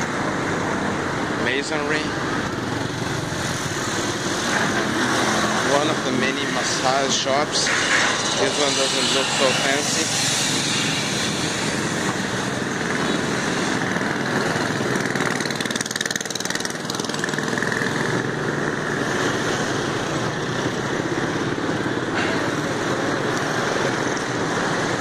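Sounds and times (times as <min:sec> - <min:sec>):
motorbike engines running: 0:00.0 - 0:25.0
road noise: 0:00.0 - 0:25.0.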